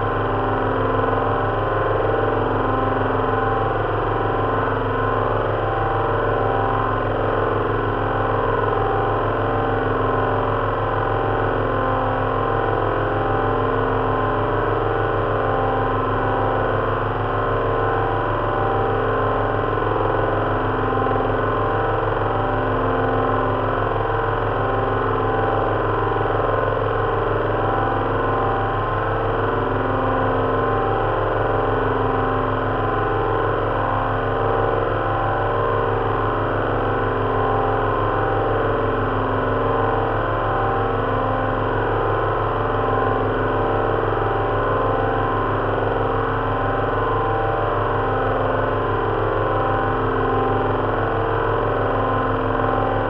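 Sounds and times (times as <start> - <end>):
simulated aircraft engine drone: 0.0 - 53.0.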